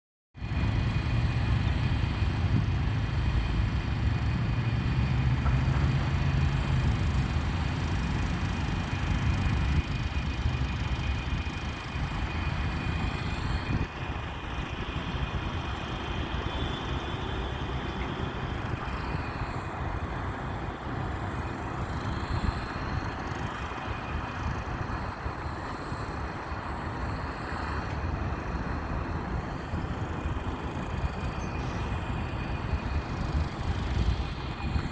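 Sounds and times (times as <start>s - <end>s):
vehicle rumble: 0.4s - 34.9s.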